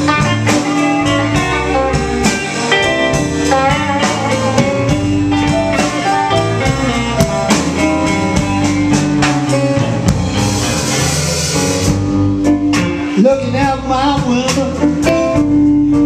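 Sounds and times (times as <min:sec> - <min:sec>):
blues band playing: 0:00.0 - 0:16.0
electric guitar lead: 0:00.0 - 0:16.0.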